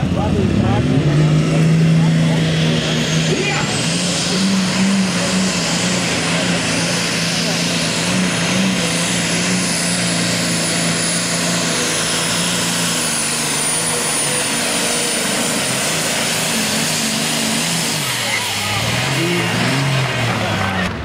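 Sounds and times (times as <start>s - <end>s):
heavy rushing noise: 0.0s - 21.0s
tractor diesel engine droning: 0.0s - 21.0s.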